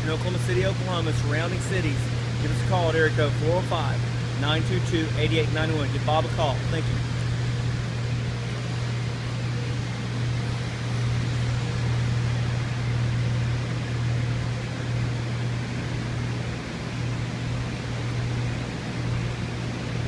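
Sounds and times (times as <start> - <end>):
constant low hum: 0.0 - 20.0.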